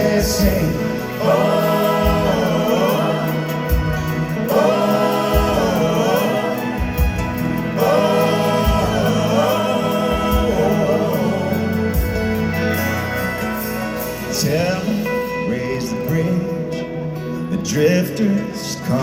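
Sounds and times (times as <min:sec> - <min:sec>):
voices singing held notes: 0:00.0 - 0:16.6
live band playing: 0:00.0 - 0:19.0.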